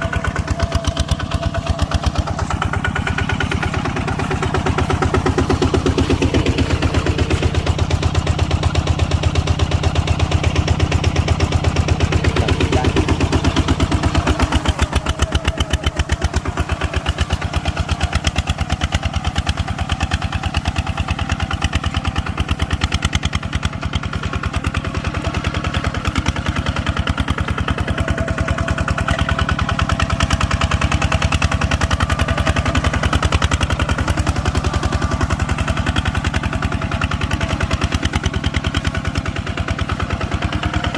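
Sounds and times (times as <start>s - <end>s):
farm machine engine chugging: 0.0s - 40.9s.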